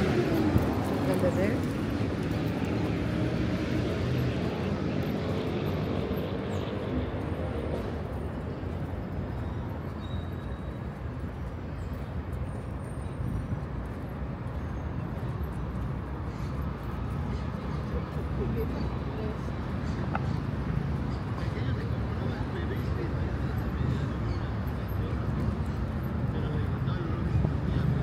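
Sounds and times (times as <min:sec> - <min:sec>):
hum of traffic: 0:00.0 - 0:28.0.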